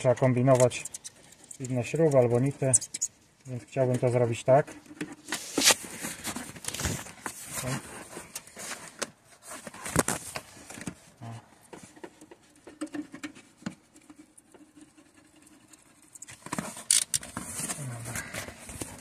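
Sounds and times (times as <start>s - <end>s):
rustling and scraping: 0.0s - 19.0s.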